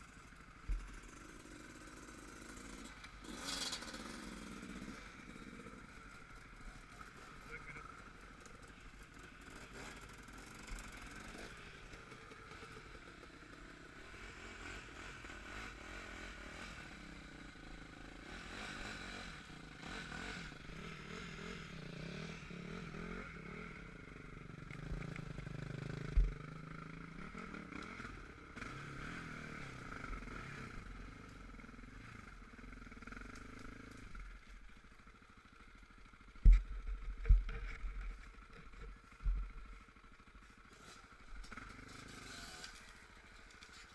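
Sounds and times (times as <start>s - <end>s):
atv engine revving: 0.3s - 34.4s, 35.2s - 43.9s.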